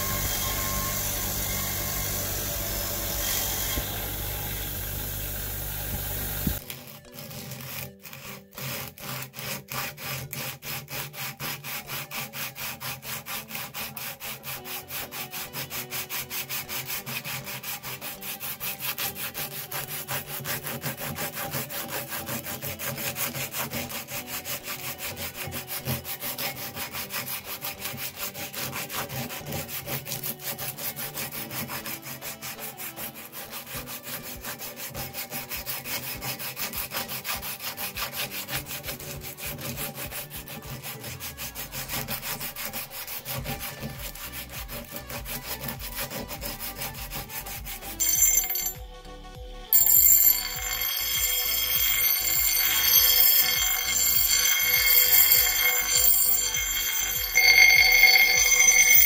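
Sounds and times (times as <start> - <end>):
sandpaper rubbing on metal: 0.0 - 48.8, 49.8 - 59.0.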